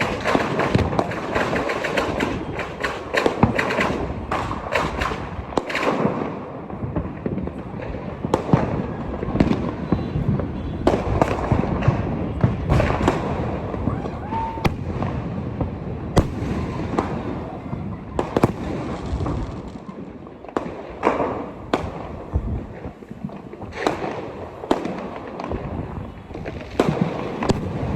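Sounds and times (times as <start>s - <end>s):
firecracker bangs: 0.0s - 27.9s
fireworks crackling: 0.0s - 27.9s.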